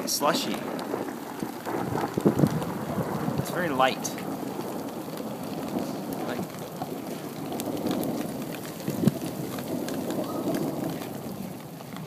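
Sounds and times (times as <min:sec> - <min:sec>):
hail falling: 0:00.0 - 0:12.0.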